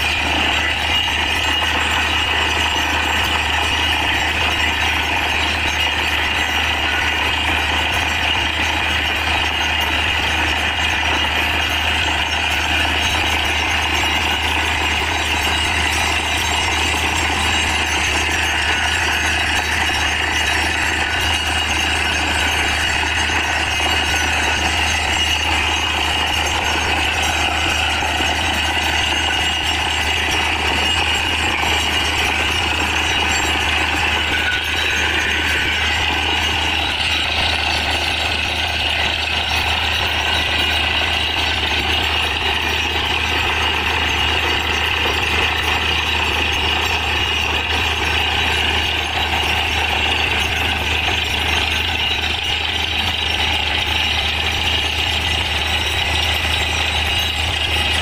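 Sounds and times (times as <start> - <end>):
engine and compressor hum: 0.0 - 58.0.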